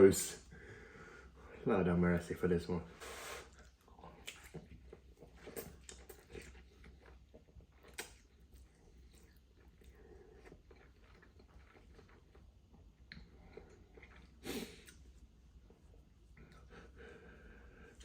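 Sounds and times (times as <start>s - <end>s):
person chewing noodles: 3.4s - 18.0s.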